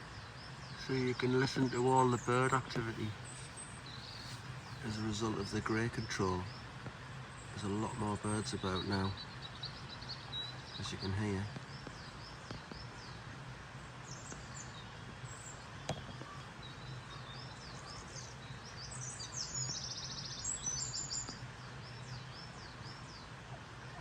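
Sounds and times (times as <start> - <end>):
songbirds singing and calling: 0.0 - 24.0
steady low hum: 0.0 - 24.0.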